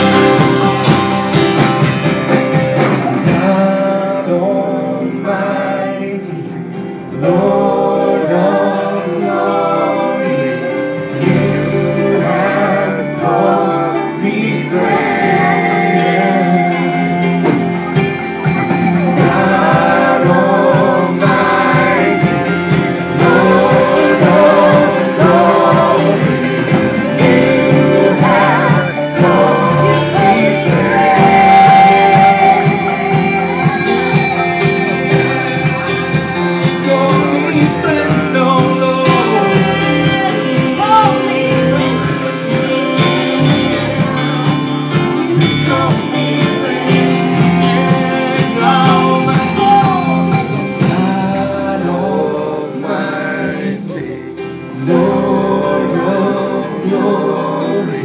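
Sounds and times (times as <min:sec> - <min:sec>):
acoustic guitar: 0:00.0 - 0:58.0
keyboard: 0:00.0 - 0:58.0
person singing: 0:00.0 - 0:58.0.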